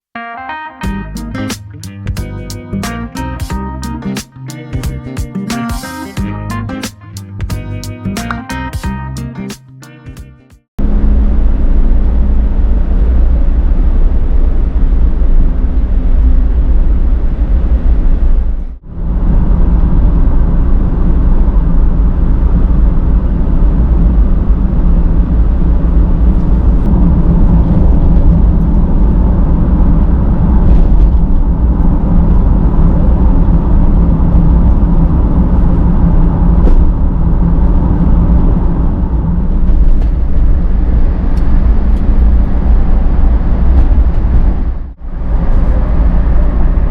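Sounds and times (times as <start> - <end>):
van engine hum and road noise: 0.8 - 46.9.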